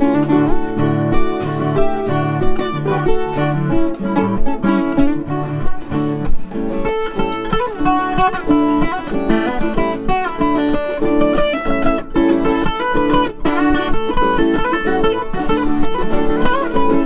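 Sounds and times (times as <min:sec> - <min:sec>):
two guitars plucking a duet: 0:00.0 - 0:17.0.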